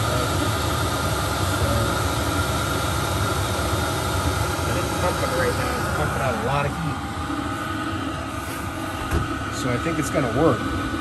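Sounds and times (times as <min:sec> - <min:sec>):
heater blower fan whirring: 0:00.0 - 0:11.0.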